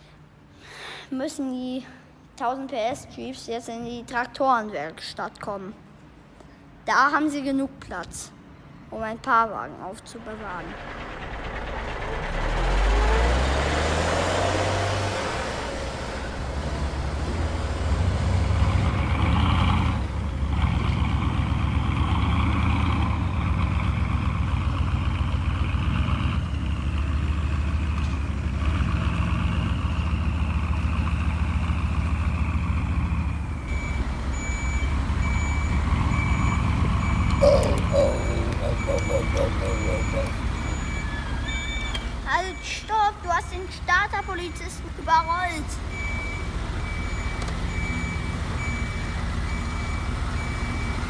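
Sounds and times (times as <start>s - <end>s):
simulated truck engine with whine: 8.4s - 51.0s.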